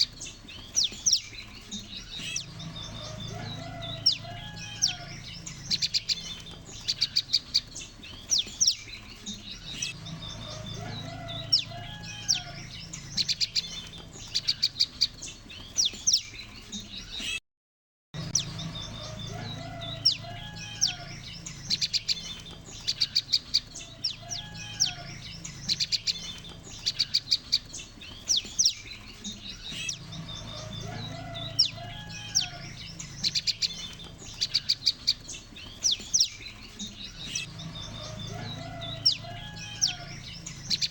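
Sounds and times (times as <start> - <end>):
birds chipping and whistling: 0.0 - 17.4, 18.2 - 40.9.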